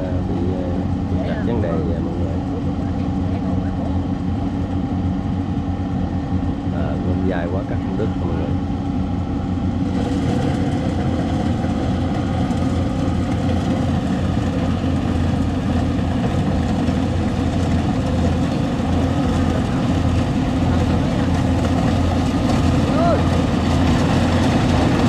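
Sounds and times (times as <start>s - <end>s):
harvester engines droning: 0.0s - 25.0s.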